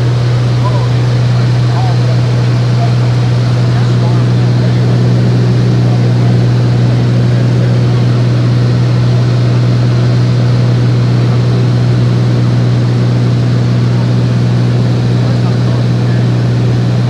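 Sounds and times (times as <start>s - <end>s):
plane engine and propeller droning: 0.0s - 17.0s.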